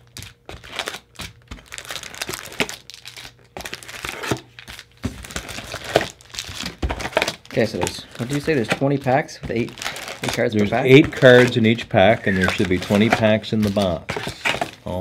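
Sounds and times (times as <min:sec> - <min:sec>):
card packaging crinkling and tearing: 0:00.0 - 0:15.0.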